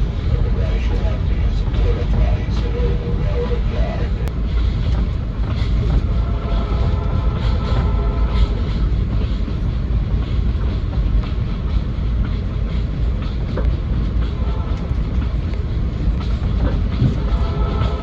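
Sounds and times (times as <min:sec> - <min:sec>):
rail joint clicks: 0:00.0 - 0:18.0
train wheels rumbling on rails: 0:00.0 - 0:18.0.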